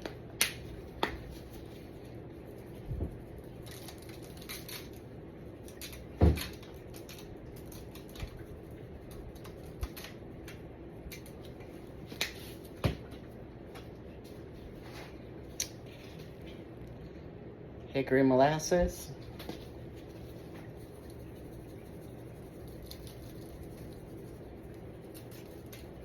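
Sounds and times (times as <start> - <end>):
dry rub pattering onto meat: 0.0 - 14.8, 19.2 - 26.0.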